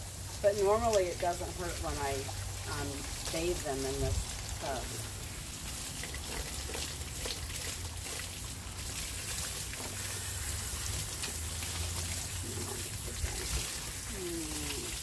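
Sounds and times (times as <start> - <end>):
hose water running: 0.0 - 15.0
water splashing into plastic tub: 2.0 - 15.0.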